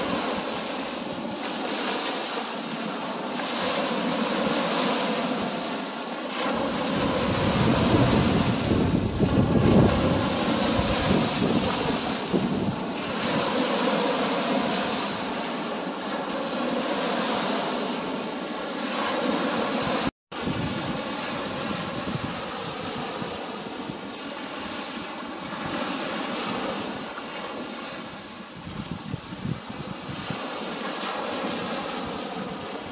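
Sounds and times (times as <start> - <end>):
small surf breaking on beach: 0.0 - 32.9.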